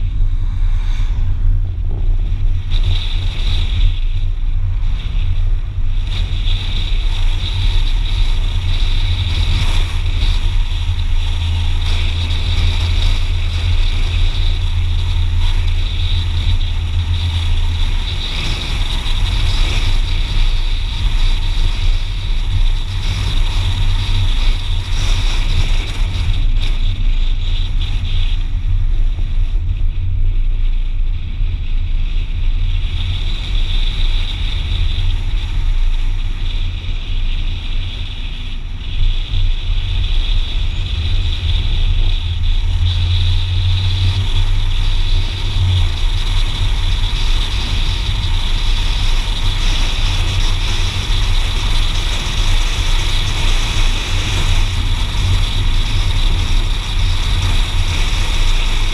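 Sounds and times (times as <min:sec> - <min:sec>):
car engine and road rumble: 0:00.0 - 0:58.9.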